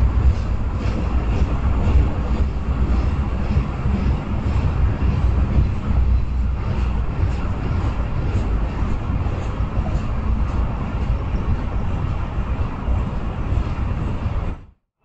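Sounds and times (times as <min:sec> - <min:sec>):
freight train cars rumbling: 0:00.0 - 0:14.7.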